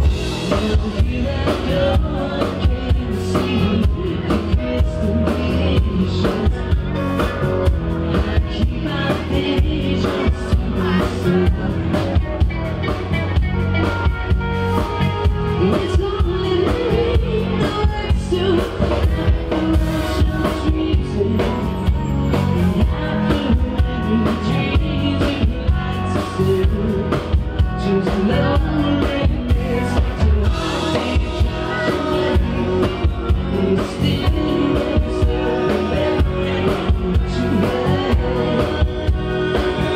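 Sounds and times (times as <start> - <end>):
drum kit beat: 0.0 - 39.9
electric bass: 0.0 - 39.9
electric guitar: 0.0 - 39.9.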